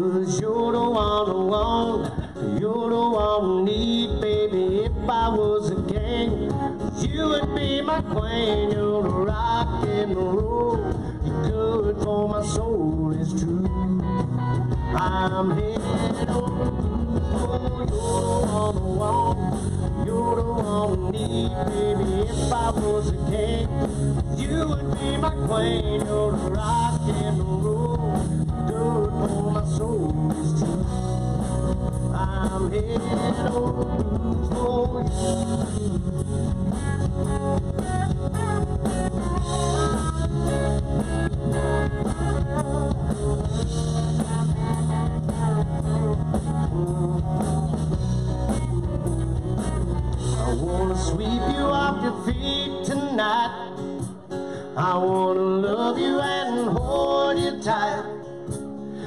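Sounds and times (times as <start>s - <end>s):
bass guitar: 0.0s - 59.0s
lead guitar melody: 0.0s - 59.0s
drum beat: 3.1s - 53.0s.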